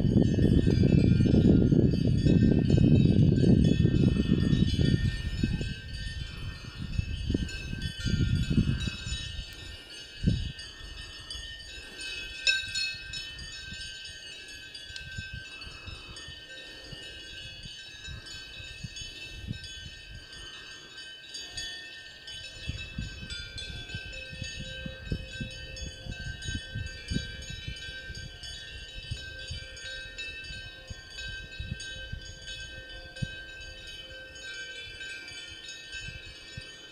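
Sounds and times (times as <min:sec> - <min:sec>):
cowbells jangling: 0:00.0 - 0:36.9.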